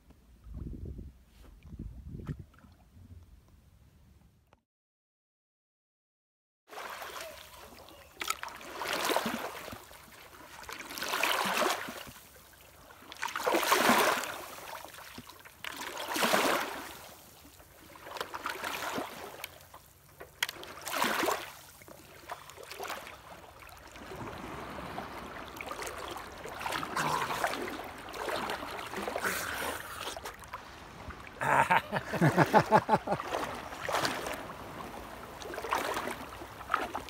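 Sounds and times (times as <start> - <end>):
water sloshing and splashing: 6.7 - 37.0.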